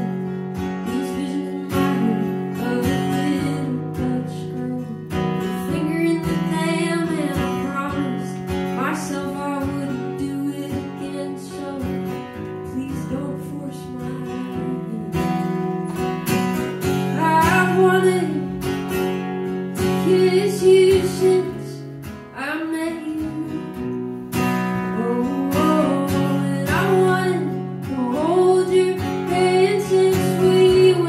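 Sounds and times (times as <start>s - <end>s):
acoustic guitar strumming: 0.0s - 31.0s
woman singing: 0.0s - 31.0s.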